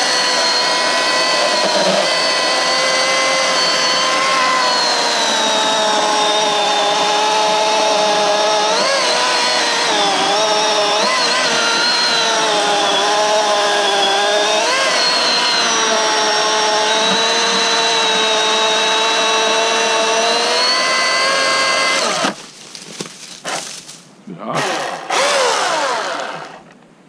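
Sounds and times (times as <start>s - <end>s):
chainsaw cutting through log: 0.0s - 22.4s, 24.4s - 26.7s.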